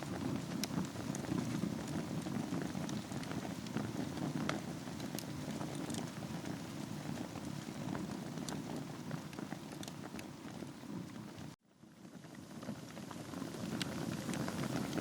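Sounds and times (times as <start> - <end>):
fire crackling and popping: 0.0 - 15.0
wood fire rushing flame: 0.0 - 15.0.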